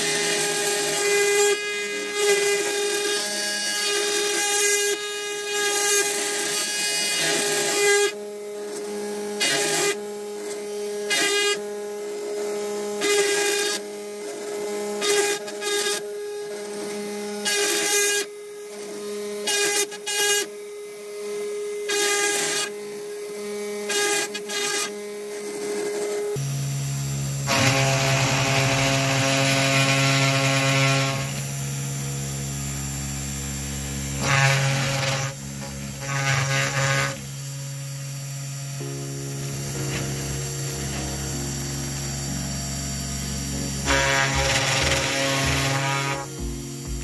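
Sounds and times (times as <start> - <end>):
bit cutting wood: 0.0 - 47.0
router spindle whine: 0.0 - 47.0.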